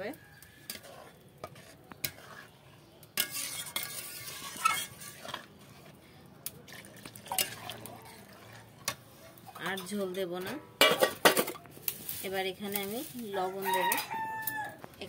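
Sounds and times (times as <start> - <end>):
metal spatula scraping a pan: 0.0 - 6.1, 7.3 - 14.6.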